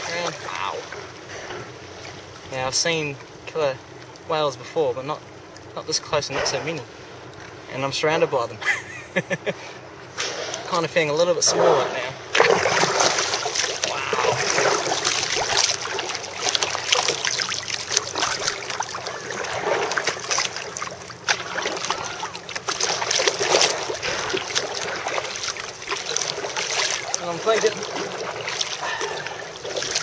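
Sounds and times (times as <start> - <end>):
water lapping against kayak hull: 0.0 - 7.9, 9.7 - 30.0.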